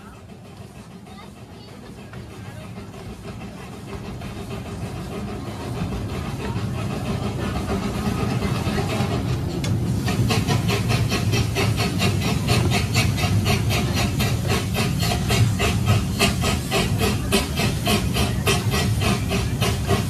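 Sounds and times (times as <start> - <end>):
steam locomotive chuffing: 0.0 - 20.0
steam locomotive hissing: 0.0 - 20.0
train rumbling on track: 0.0 - 20.0.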